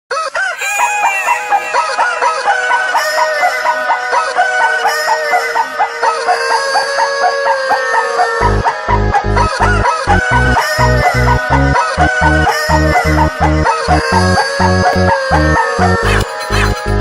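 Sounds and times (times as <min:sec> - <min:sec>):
chicken clucks music: 0:00.4 - 0:17.0.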